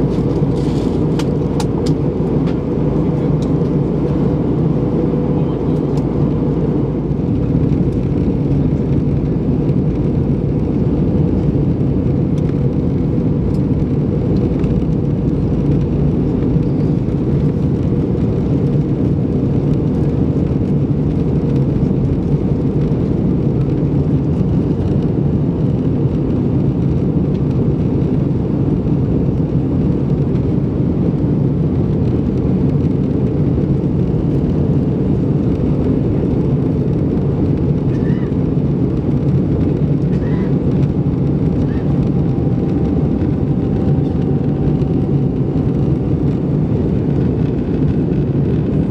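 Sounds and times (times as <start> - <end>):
aircraft engines droning: 0.0 - 48.9.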